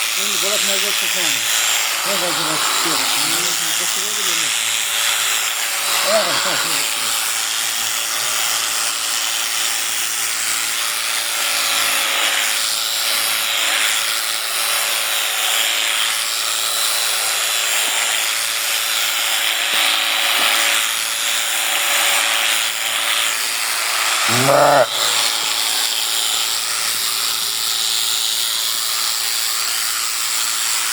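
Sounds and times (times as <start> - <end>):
electric sheep shears buzzing: 0.0 - 30.9.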